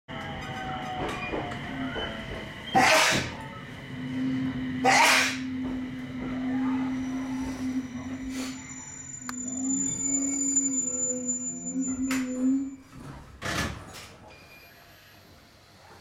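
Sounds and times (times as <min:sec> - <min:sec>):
train whine and rumble: 0:00.1 - 0:16.0.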